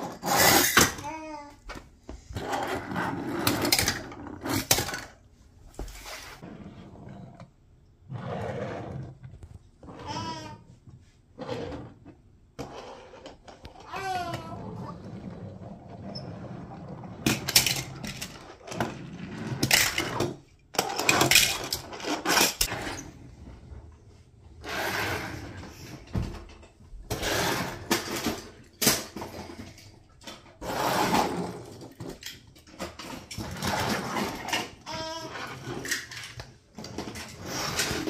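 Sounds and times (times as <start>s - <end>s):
toy cars rolling on tabletop: 0.0s - 1.3s, 2.3s - 5.2s, 6.0s - 10.7s, 11.3s - 38.0s.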